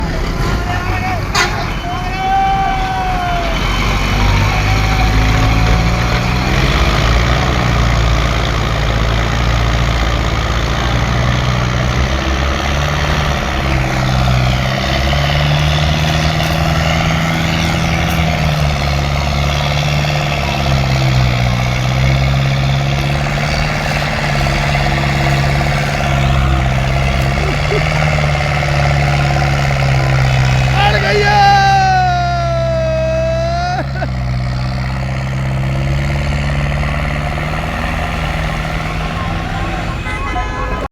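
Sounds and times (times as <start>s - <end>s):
diesel tractor engine labouring: 0.0s - 40.9s.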